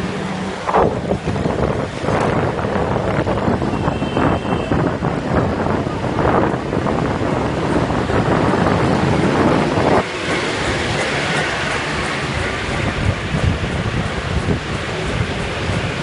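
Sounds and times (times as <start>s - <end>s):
road rumble: 0.0s - 16.0s
wind rushing over microphone: 0.0s - 16.0s.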